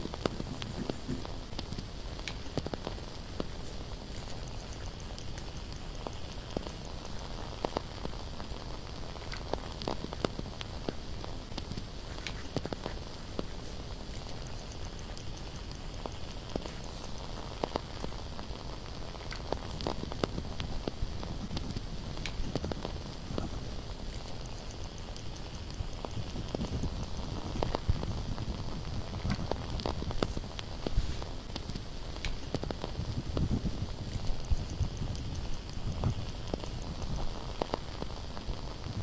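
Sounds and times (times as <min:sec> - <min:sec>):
candle crackling: 0:00.0 - 0:39.0
soft hiss: 0:00.0 - 0:39.0.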